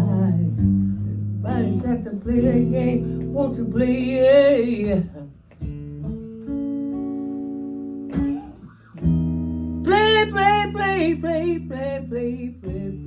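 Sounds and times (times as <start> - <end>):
slow blues guitar: 0.0 - 13.0.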